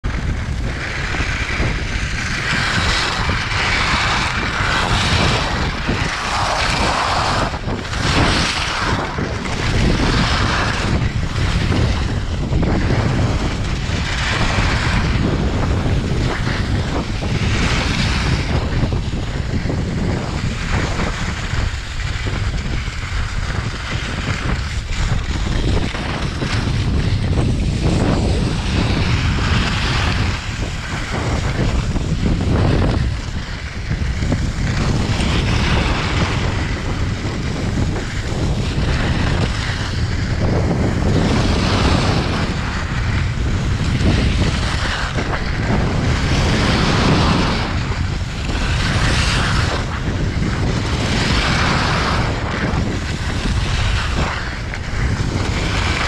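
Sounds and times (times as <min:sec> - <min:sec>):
skis carving on packed snow: 0:00.0 - 0:56.0
wind buffeting microphone: 0:00.0 - 0:56.0.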